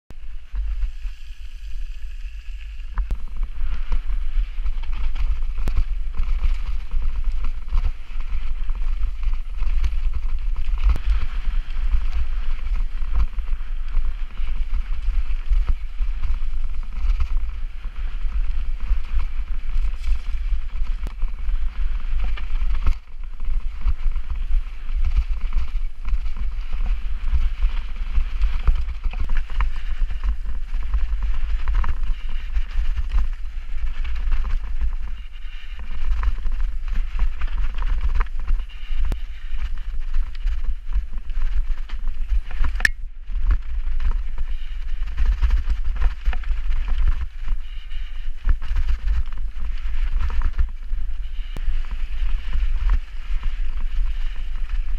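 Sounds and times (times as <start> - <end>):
wind rumble on microphone: 0.1 - 54.9
bike knocking and rattling: 0.2 - 54.9.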